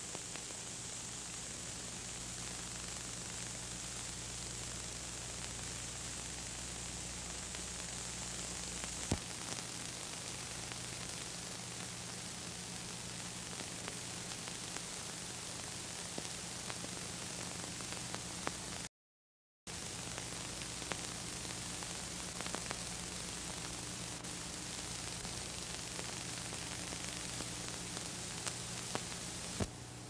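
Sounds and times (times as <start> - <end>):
film soundtrack hiss: 0.0 - 18.9, 19.7 - 30.0
low mains hum: 0.0 - 18.9, 19.7 - 30.0.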